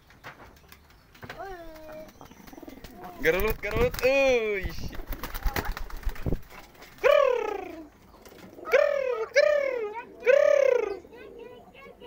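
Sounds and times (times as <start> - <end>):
pigeons cooing: 1.4 - 12.0.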